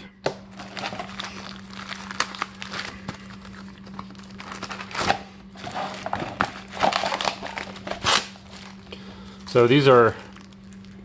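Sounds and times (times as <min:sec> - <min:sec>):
plastic packaging crinkling: 0:00.5 - 0:11.0.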